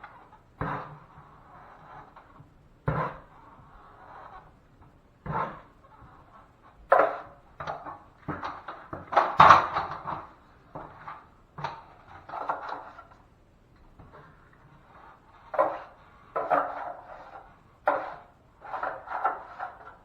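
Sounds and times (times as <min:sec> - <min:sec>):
drywall tools knocking and scraping: 0:00.0 - 0:20.0.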